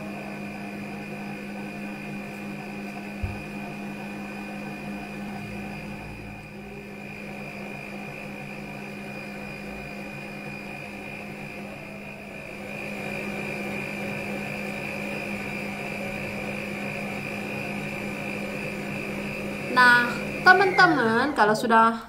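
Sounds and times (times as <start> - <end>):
stand mixer whisking: 0.0 - 21.4.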